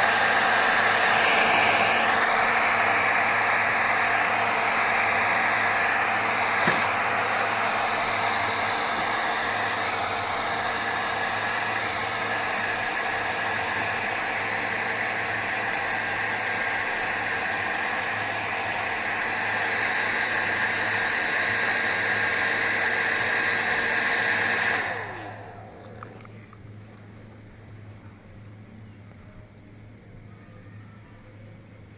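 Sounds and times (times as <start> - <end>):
motor winding down: 0.0 - 26.3
hair dryer blowing: 0.0 - 26.4.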